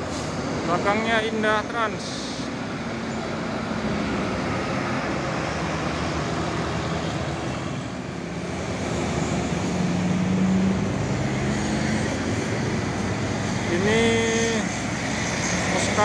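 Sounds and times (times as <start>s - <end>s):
bus diesel engine driving past: 0.0s - 16.0s
motorcycles and cars passing: 0.0s - 16.0s.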